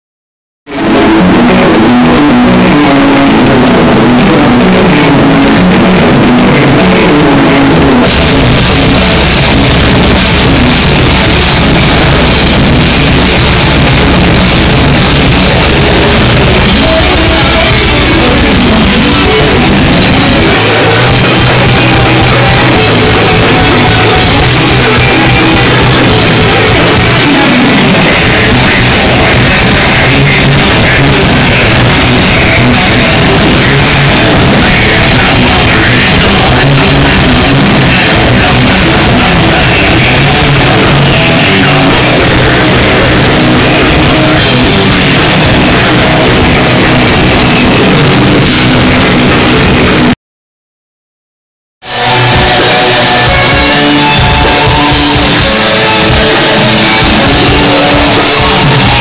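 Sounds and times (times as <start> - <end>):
distorted live metal band: 0.6 - 50.2, 51.8 - 59.0
electric guitar: 0.6 - 50.2, 51.8 - 59.0
drums and cymbals crashing: 0.8 - 50.2, 51.8 - 59.0.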